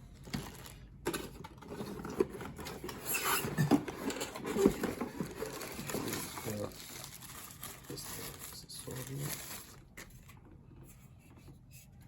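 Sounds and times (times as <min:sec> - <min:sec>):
packaging rubbing and scraping: 0:00.3 - 0:10.4.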